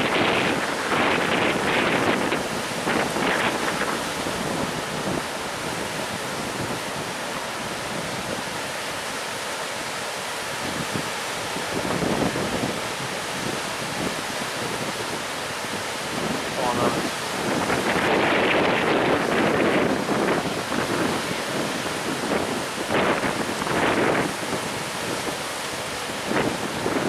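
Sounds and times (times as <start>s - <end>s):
wind buffeting microphone: 0.0s - 9.2s, 10.5s - 27.0s
ocean surf breaking: 0.0s - 27.0s.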